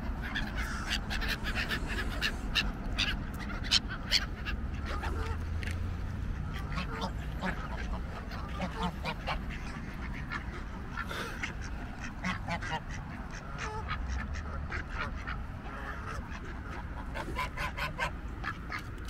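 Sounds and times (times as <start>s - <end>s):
ducks quacking: 0.0s - 18.9s
geese honking: 0.0s - 18.9s.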